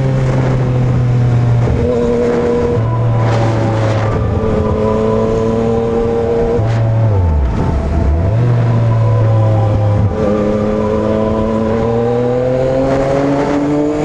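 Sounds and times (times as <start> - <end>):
motorcycle engine revving: 0.0 - 14.0
wind noise on microphone: 0.0 - 14.0.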